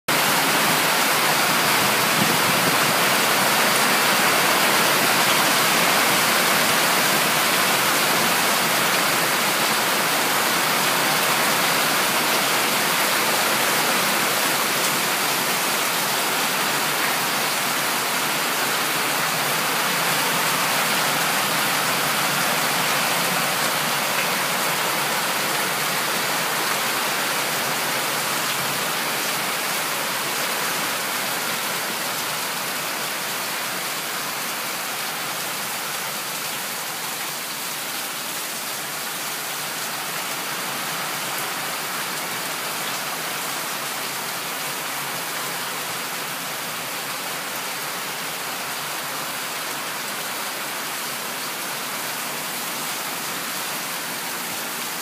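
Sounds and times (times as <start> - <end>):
heavy rain pouring: 0.1 - 55.0.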